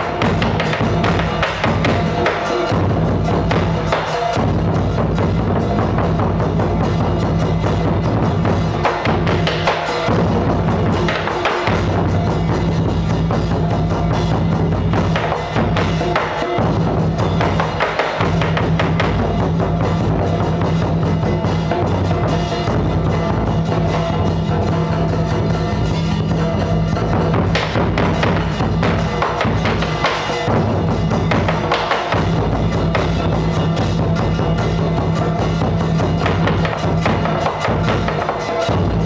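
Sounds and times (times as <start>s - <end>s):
drums and wood block music: 0.0s - 39.0s.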